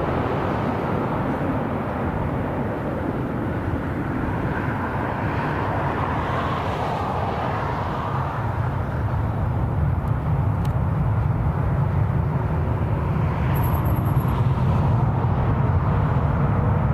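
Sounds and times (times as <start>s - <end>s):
jet engine roar: 0.0s - 16.9s.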